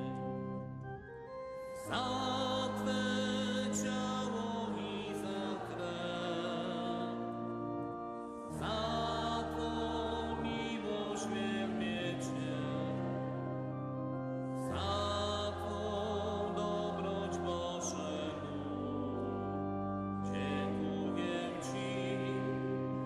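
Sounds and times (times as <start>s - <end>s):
church organ playing chords: 0.0s - 23.0s
singing: 1.8s - 13.6s, 14.6s - 19.4s, 20.2s - 23.0s.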